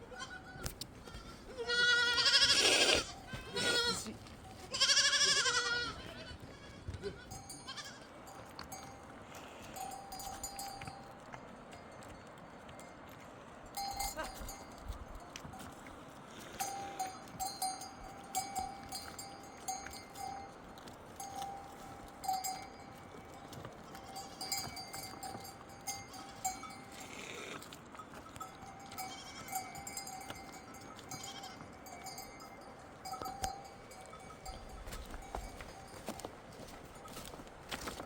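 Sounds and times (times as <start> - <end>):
livestock bells clinking: 7.0 - 38.0.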